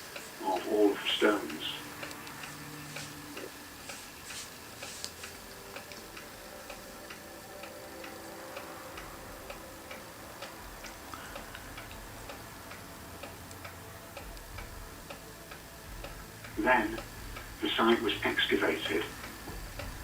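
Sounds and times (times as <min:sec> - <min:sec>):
faint steady hum: 0:00.0 - 0:20.0
regular ticking: 0:00.0 - 0:20.0.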